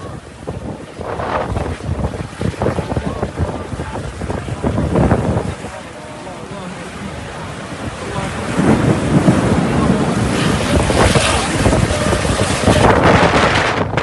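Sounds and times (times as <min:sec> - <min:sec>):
heavy rain: 0:00.0 - 0:14.0
storm wind gusting: 0:00.0 - 0:14.0.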